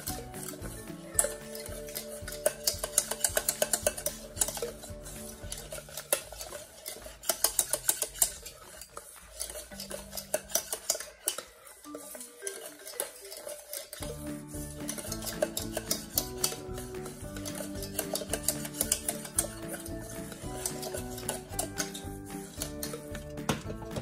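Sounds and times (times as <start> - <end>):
utensil stirring in metal saucepan: 0.0 - 24.0.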